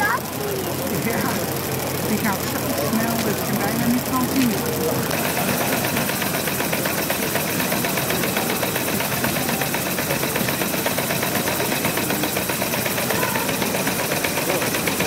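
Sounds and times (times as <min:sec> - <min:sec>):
model steam locomotive running fast: 0:00.0 - 0:15.0.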